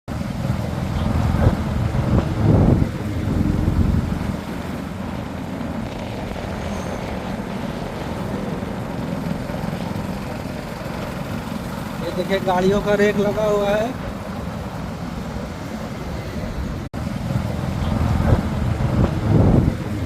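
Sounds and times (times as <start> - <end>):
road noise: 0.1 - 20.0
vehicle engine rumble: 0.1 - 20.0.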